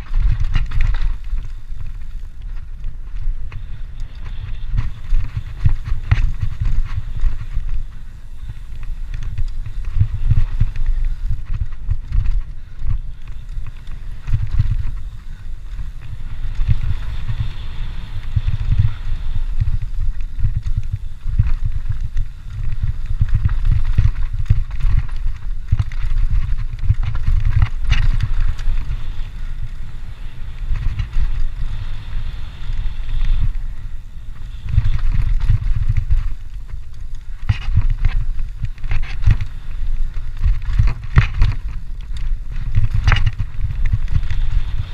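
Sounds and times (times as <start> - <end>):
bike rattling and knocking: 0.0 - 44.9
wind and trail rumble: 0.0 - 44.9.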